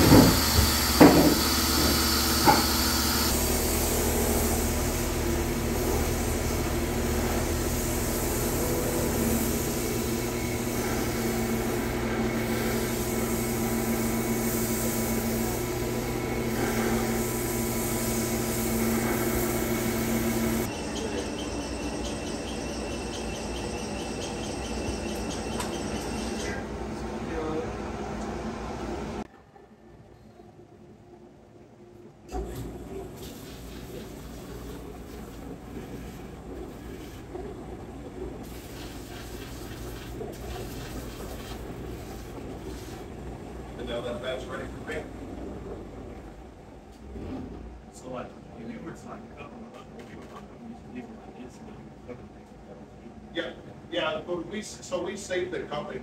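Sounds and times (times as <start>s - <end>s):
machine hum and hiss: 0.0s - 29.3s, 31.7s - 56.0s.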